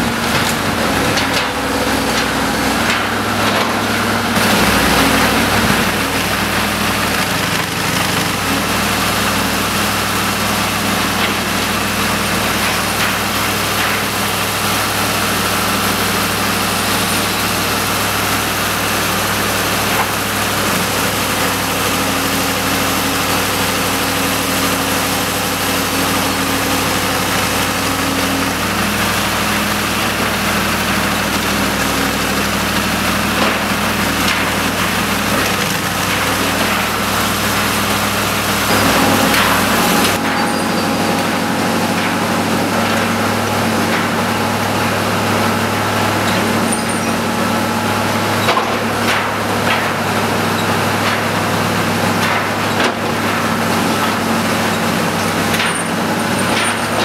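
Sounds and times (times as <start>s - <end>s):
diesel excavator engine droning: 0.0s - 57.0s.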